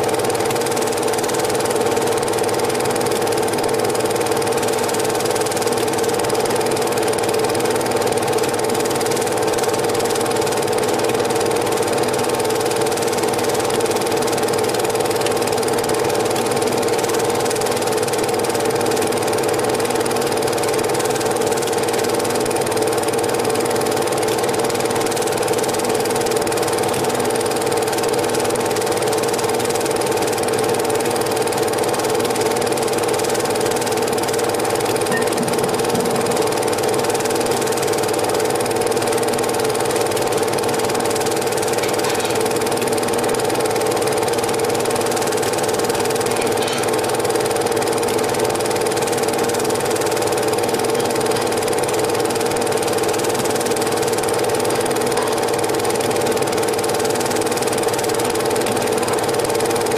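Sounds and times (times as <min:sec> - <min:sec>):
film projector whirring: 0:00.0 - 0:59.9.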